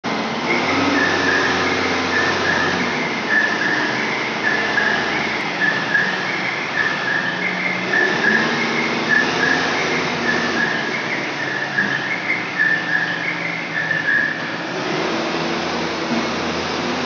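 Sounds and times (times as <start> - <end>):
forklift engine drone: 0.0 - 17.0
high-pitched squeaks: 0.5 - 14.7.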